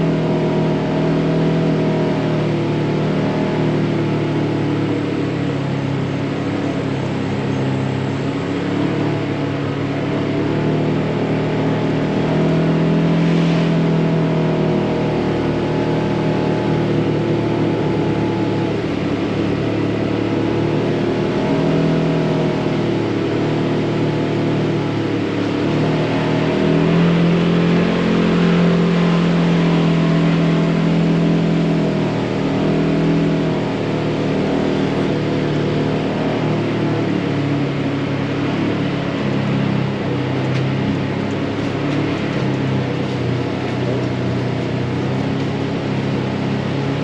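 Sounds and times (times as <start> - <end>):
off-road vehicle engine running: 0.0 - 47.0.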